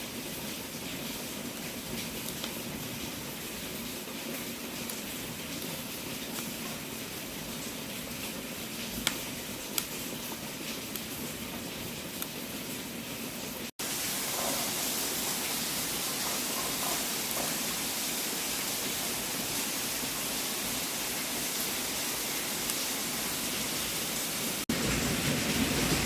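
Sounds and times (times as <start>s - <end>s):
wood fire hissing: 0.0s - 26.0s.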